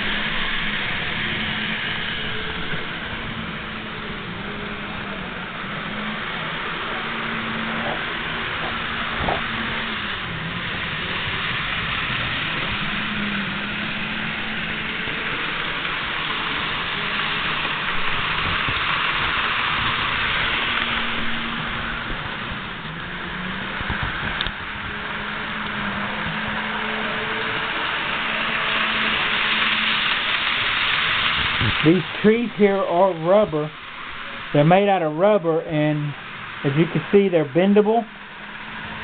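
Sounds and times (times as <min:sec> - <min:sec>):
low wavering hum: 0:00.0 - 0:39.0
model train motor whirring: 0:00.0 - 0:39.0.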